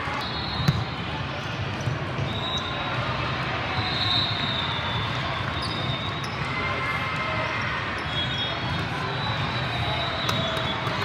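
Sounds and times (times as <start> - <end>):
spectators chatting: 0.0 - 11.0.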